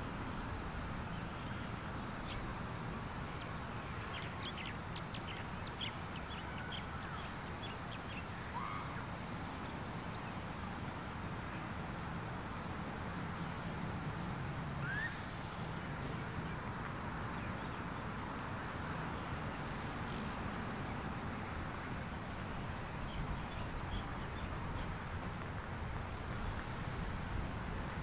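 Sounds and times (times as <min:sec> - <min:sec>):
distant traffic hum: 0:00.0 - 0:28.0.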